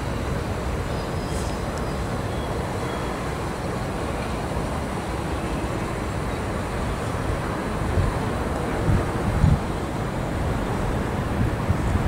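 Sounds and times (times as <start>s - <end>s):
electric train rolling slowly: 0.0s - 12.0s.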